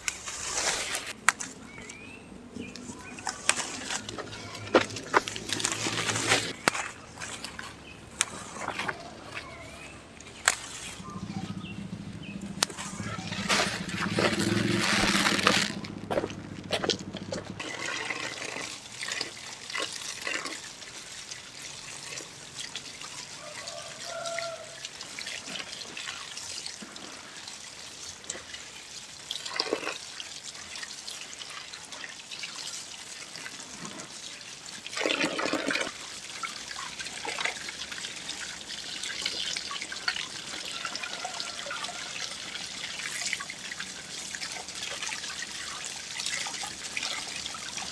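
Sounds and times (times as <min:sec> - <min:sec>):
water gushing: 0:00.0 - 0:47.9
water pouring and trickling: 0:00.0 - 0:47.9.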